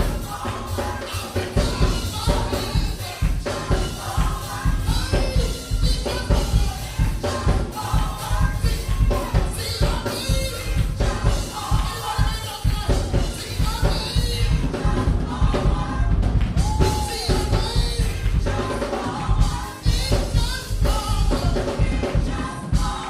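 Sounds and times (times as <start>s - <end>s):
band playing: 0.0s - 23.0s
group of voices singing: 0.0s - 23.0s
steady drum beat: 0.0s - 23.0s.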